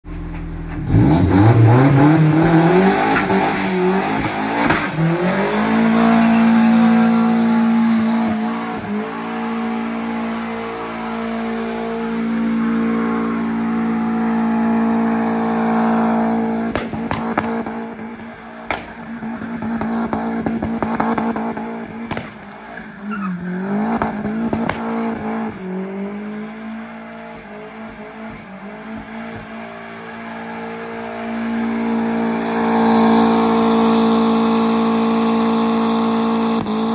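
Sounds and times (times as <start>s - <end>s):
car engine revving hard: 0.7s - 36.9s.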